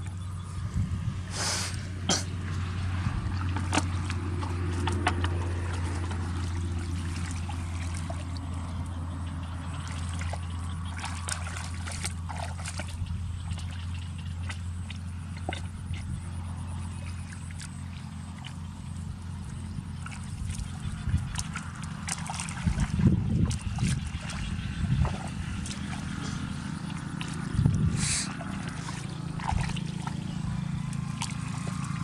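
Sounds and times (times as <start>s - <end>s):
steady low hum: 0.0s - 32.0s
water trickling and splashing: 0.0s - 32.0s.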